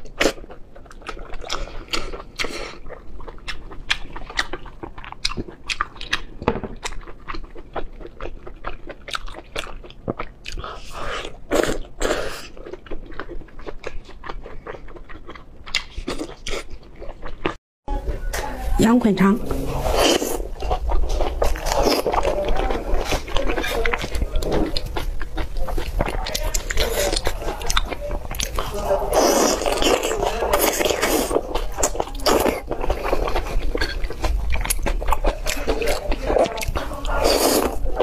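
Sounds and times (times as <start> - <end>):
wet chewing squelches: 0.0 - 17.6, 19.5 - 38.0.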